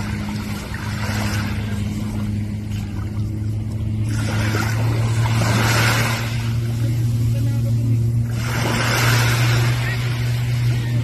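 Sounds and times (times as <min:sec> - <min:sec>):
rushing water and wind: 0:00.0 - 0:11.0
watercraft engine humming: 0:00.0 - 0:11.0.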